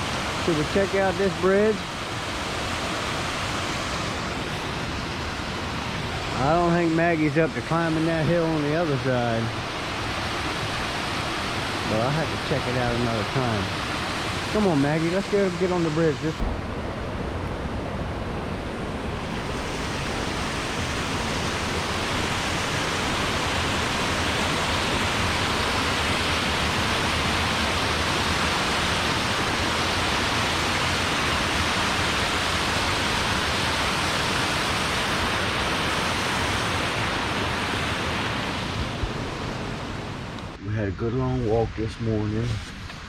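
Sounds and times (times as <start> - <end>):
waterfall rushing: 0.0 - 40.6.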